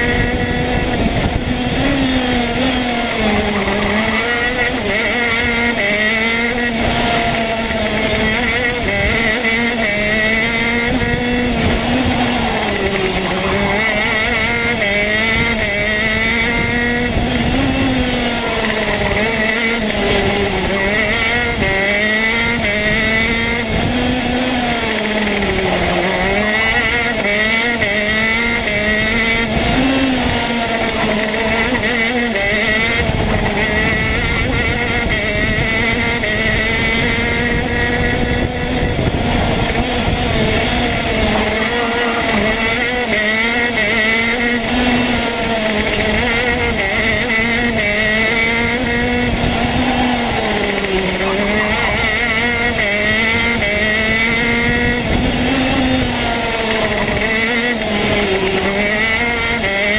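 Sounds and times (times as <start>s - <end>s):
kart engine at racing speed: 0.0s - 59.9s.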